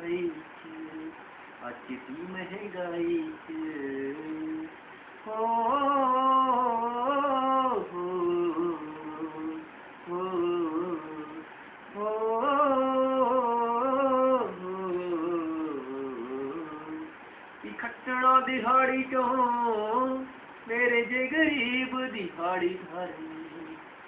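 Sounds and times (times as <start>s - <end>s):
man singing wordless melody: 0.0s - 24.0s.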